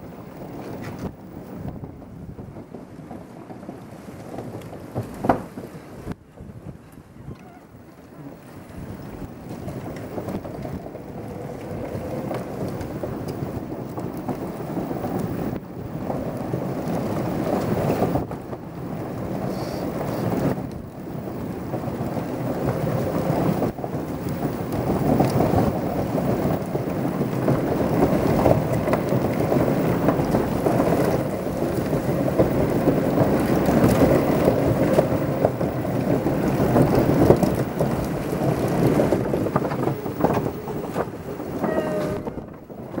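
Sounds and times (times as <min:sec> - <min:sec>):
wheels rolling over wooden planks: 0:00.0 - 0:43.0
wind buffeting microphone: 0:00.0 - 0:43.0.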